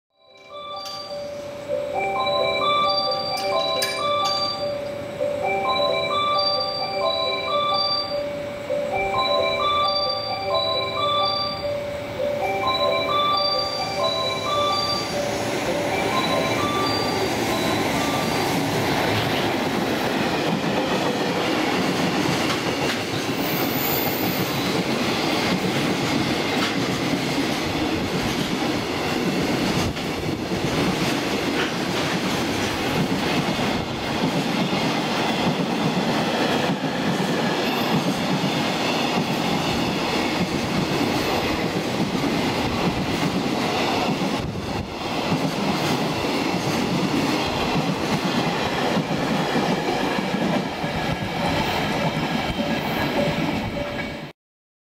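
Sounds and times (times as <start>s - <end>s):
train wheels rumbling on rails: 0.5s - 54.3s.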